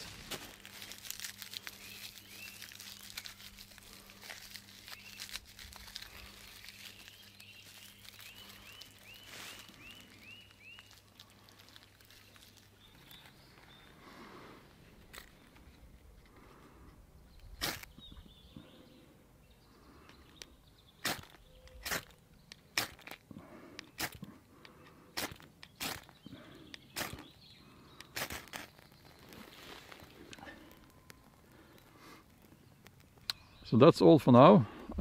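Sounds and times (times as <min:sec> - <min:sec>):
dry bark crinkling and crackling: 0:00.0 - 0:19.0, 0:19.8 - 0:35.0.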